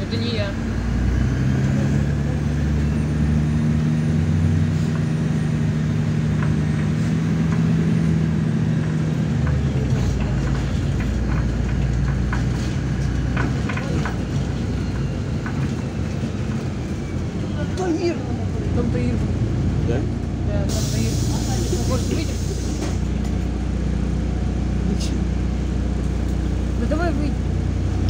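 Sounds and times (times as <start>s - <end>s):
bus engine drone: 0.0s - 28.0s
road noise: 0.0s - 28.0s.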